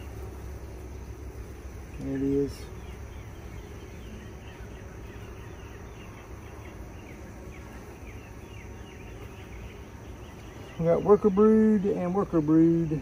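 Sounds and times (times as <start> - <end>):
honey bees humming: 0.0 - 13.0.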